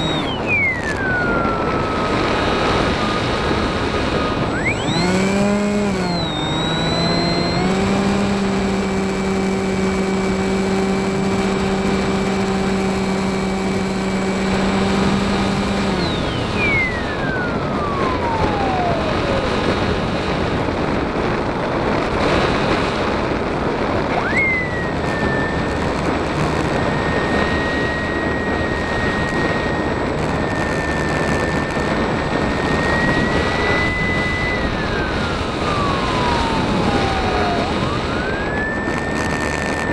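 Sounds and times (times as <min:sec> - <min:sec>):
high motor whine: 0:00.0 - 0:39.9
propeller motor hum: 0:00.0 - 0:39.9.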